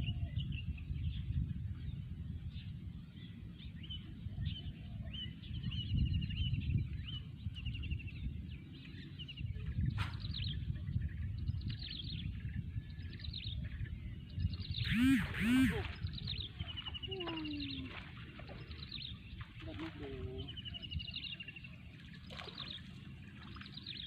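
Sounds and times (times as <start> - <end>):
birds chirping in trills: 0.2 - 24.0.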